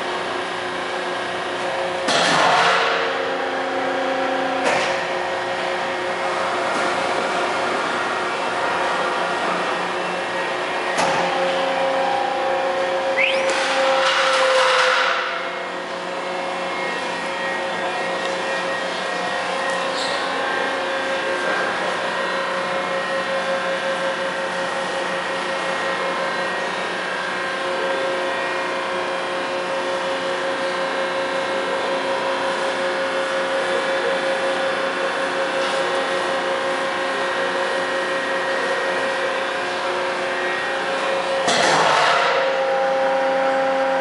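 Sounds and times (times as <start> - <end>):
machine humming: 0.0 - 44.0.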